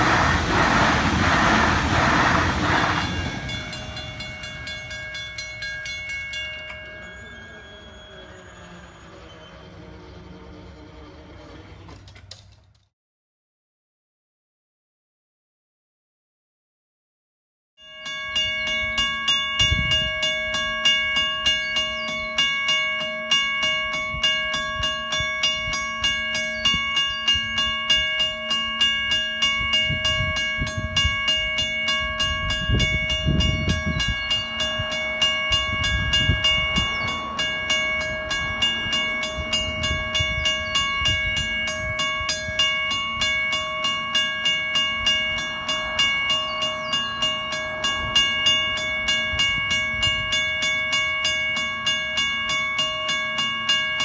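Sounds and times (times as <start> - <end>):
level crossing warning bells: 0.0 - 12.0, 17.8 - 54.0.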